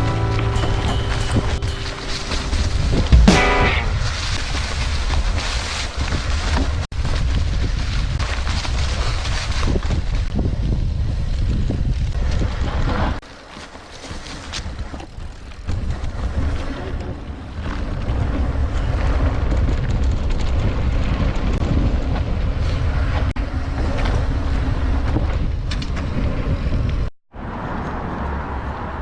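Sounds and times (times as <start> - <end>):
wind buffeting microphone: 0.0 - 13.2, 15.2 - 27.1
bike rumbling and rattling: 0.0 - 27.1.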